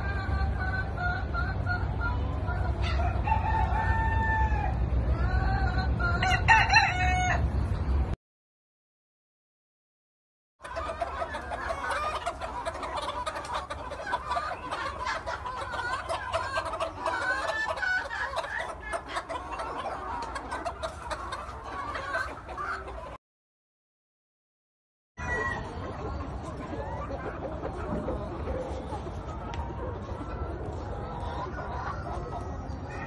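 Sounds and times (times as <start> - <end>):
hens clucking: 0.0 - 8.1, 10.6 - 23.2, 25.2 - 33.0.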